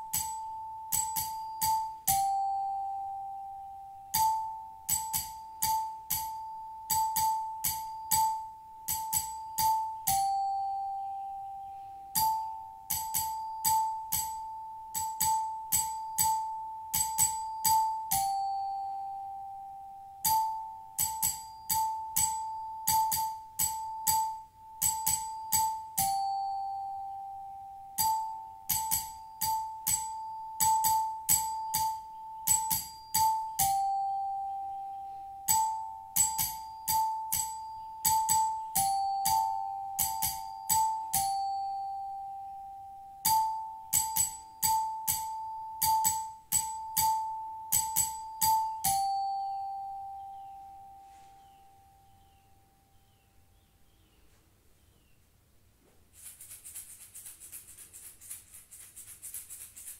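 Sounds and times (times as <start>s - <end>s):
small metal chimes ringing: 0.0s - 53.2s.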